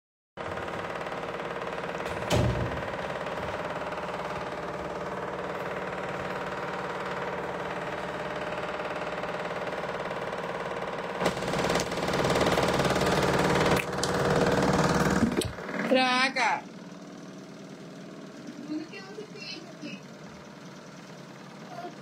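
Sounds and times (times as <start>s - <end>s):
steady machine hum: 0.4s - 22.0s.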